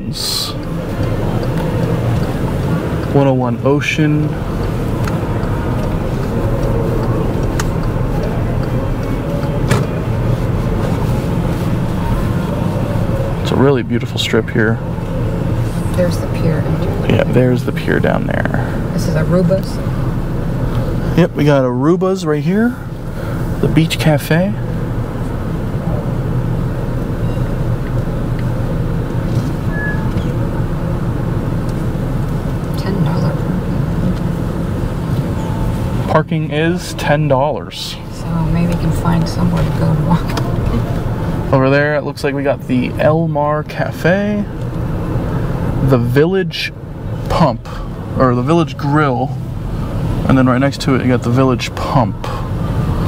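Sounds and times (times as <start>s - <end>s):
car engine and road noise: 0.0s - 53.0s.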